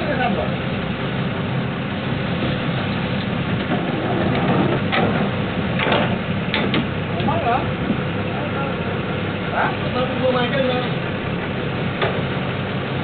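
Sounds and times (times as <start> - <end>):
boat engine running: 0.0 - 13.0
wind and water rushing: 0.0 - 13.0.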